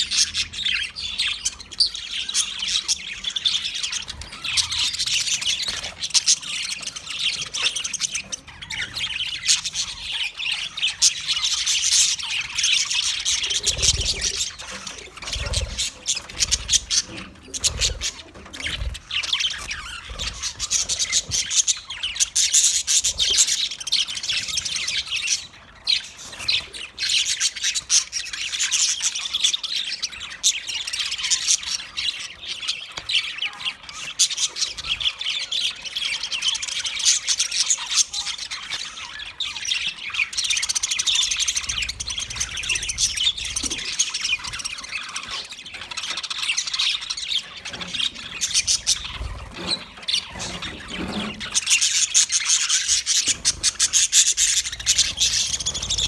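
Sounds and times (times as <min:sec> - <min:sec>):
budgerigars chirping and squawking: 0:00.0 - 0:56.0.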